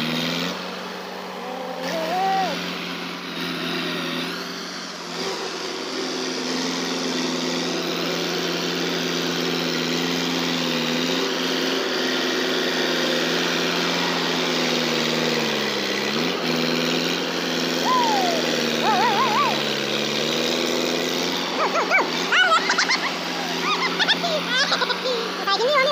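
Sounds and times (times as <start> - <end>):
bulldozer diesel engine running: 0.0 - 25.9.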